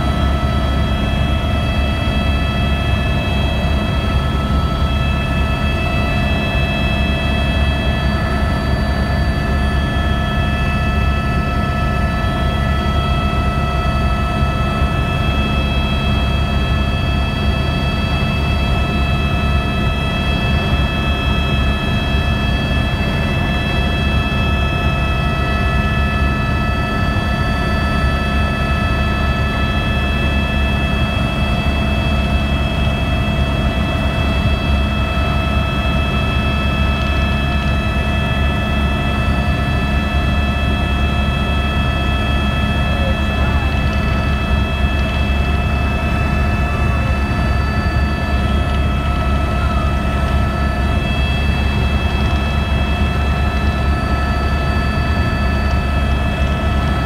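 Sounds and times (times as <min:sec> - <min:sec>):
helicopter rotor and engine drone: 0:00.0 - 0:57.0.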